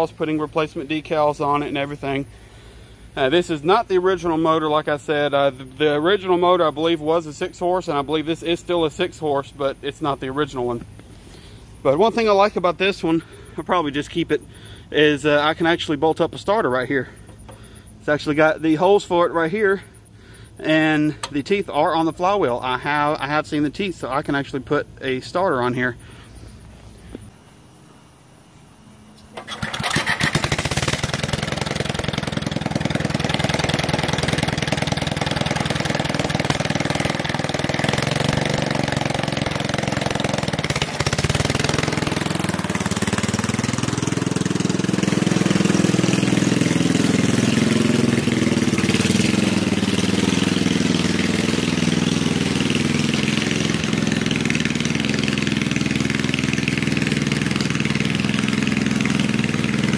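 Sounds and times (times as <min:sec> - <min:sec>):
mower engine running: 0:00.0 - 0:27.3, 0:29.0 - 0:59.9.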